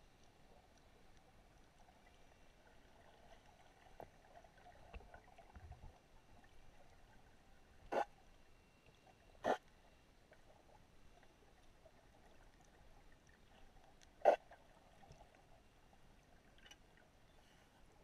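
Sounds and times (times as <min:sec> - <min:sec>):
muffled underwater ambience: 0:00.0 - 0:18.0.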